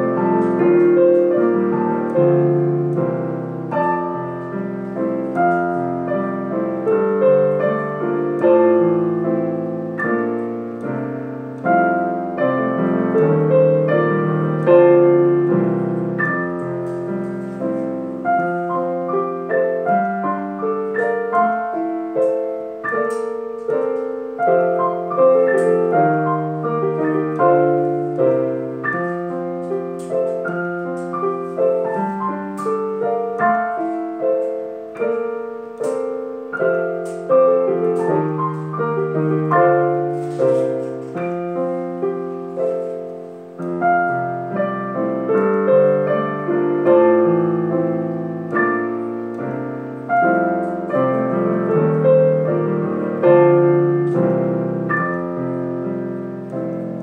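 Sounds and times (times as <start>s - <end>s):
digital piano duet: 0.0s - 57.0s.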